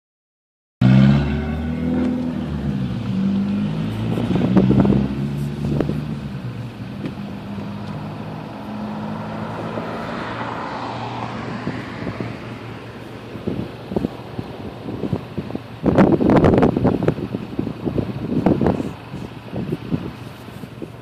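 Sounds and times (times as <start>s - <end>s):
car engine accelerating: 0.8s - 21.0s.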